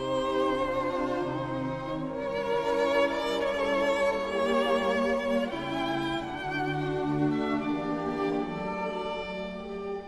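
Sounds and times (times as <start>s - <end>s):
violin and cello sustained notes: 0.0s - 10.0s.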